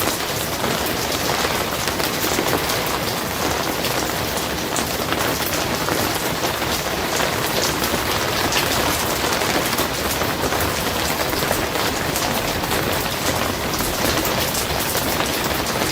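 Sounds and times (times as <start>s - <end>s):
rain drumming on a roof: 0.0s - 15.9s.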